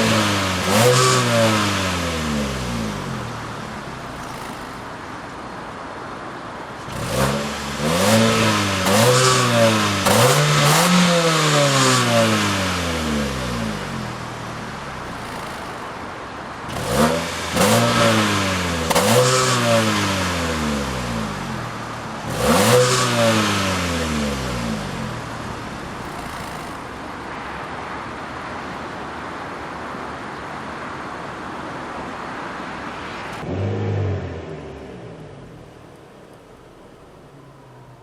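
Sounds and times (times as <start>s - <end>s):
car engine revving: 0.0s - 27.5s, 32.6s - 38.0s
car engine idling: 0.0s - 28.8s, 33.1s - 38.0s.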